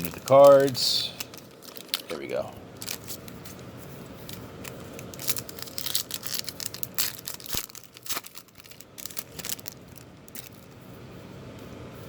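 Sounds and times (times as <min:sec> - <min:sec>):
wrappers tearing and crinkling: 0:00.0 - 0:10.8.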